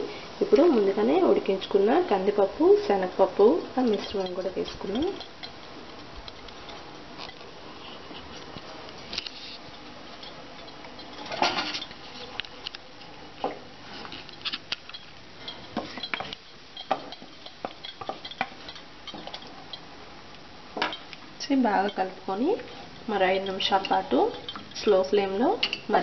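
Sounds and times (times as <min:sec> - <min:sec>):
steady low hiss: 0:00.0 - 0:26.0.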